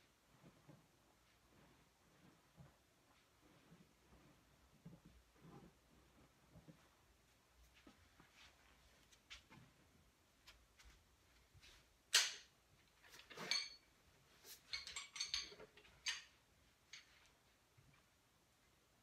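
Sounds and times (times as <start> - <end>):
knocks and clatter of person moving: 0.0 - 18.1.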